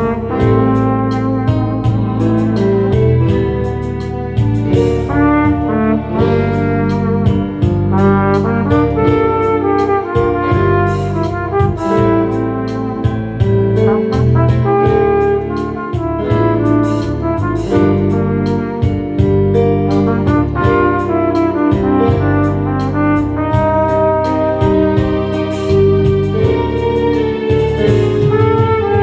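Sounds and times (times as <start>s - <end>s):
bass: 0.0s - 29.0s
drum beat: 0.0s - 29.0s
flugelhorn melody: 0.0s - 29.0s.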